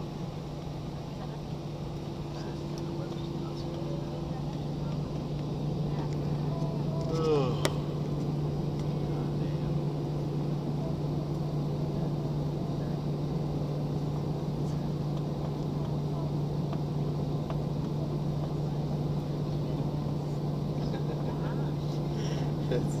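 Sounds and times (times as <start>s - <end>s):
jet engine cabin noise: 0.0s - 23.0s.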